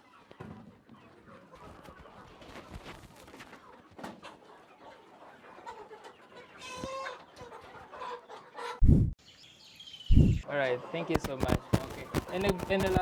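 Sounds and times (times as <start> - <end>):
chickens clucking: 0.0 - 8.8, 10.1 - 13.0.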